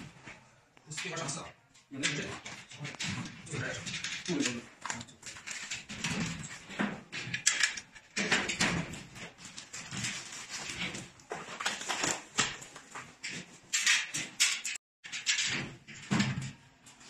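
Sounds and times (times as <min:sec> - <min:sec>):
steel parts knocking and rattling: 0:00.9 - 0:11.0, 0:11.9 - 0:16.6.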